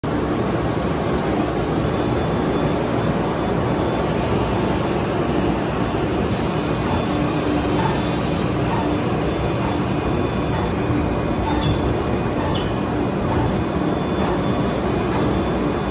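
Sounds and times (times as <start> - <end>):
cnc router running: 1.4 - 15.9.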